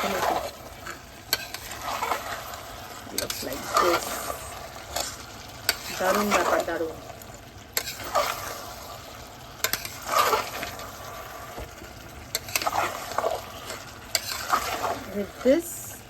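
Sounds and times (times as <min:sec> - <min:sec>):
potatoes sizzling in oil: 0:00.0 - 0:16.0
spatula scraping pan: 0:00.0 - 0:16.0.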